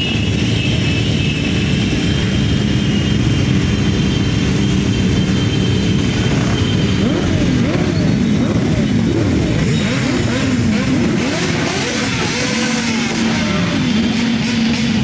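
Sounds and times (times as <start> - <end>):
motorcycle and scooter engines drone: 0.0 - 15.0.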